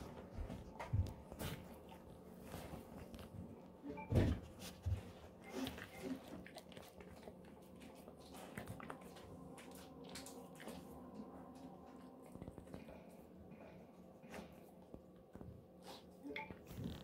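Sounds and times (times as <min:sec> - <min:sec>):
dog chewing and crunching: 0:00.0 - 0:03.6, 0:04.6 - 0:17.0.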